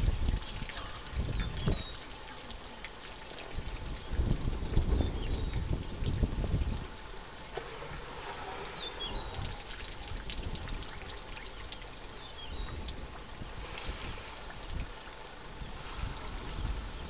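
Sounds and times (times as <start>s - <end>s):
water pouring from elephant trunk: 0.0s - 17.0s.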